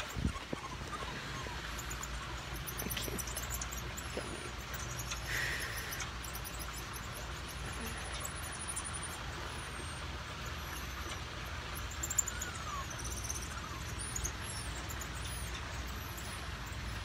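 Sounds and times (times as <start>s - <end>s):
faint high chirps: 0.0s - 17.0s
low rumble and hiss: 0.0s - 17.0s.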